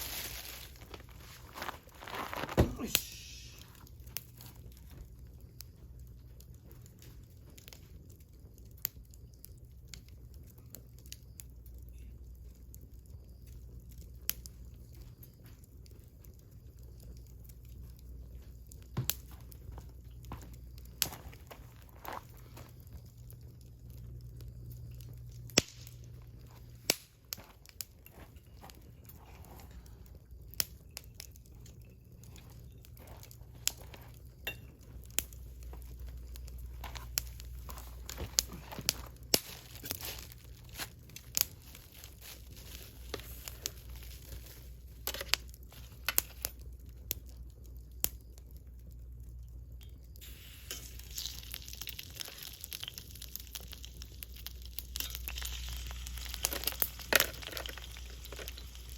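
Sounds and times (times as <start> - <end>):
wood fire crackling and snapping: 0.0 - 58.9.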